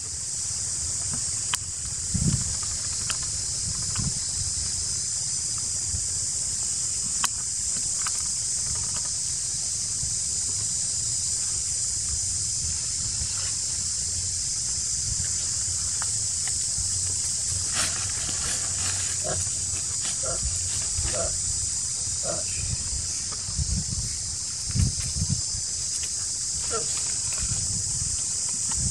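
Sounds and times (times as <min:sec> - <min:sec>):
forest insects droning: 0:00.0 - 0:28.9.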